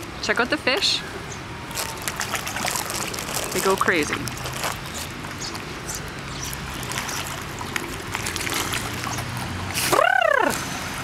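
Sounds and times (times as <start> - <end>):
fish splashing at water surface: 1.7 - 11.0.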